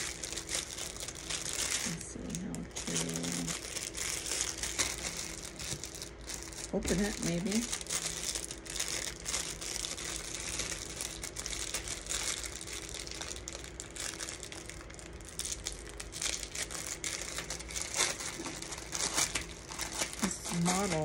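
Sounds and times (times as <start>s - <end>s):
plastic packaging crackling: 0.0s - 21.0s.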